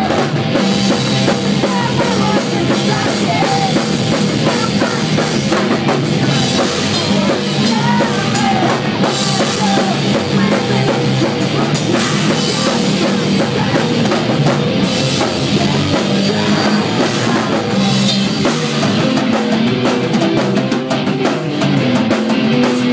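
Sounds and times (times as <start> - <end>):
drum kit: 0.0 - 22.9
electric guitar: 0.0 - 22.9
rock band playing live: 0.0 - 22.9.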